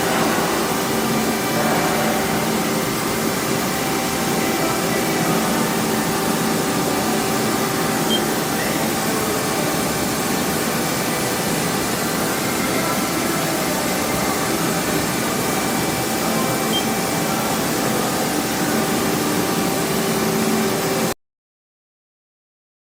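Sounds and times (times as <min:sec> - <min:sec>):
lathe whirring: 0:00.0 - 0:21.1.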